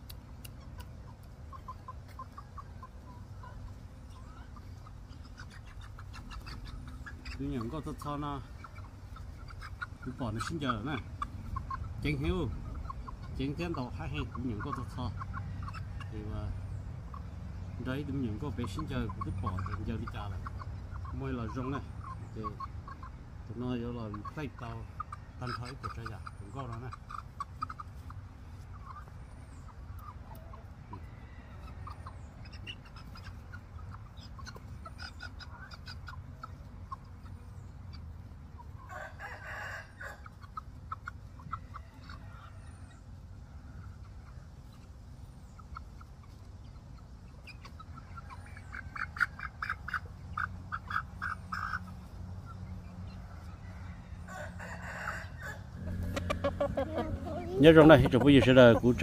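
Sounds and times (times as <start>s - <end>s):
young chickens clucking: 0.0s - 59.0s.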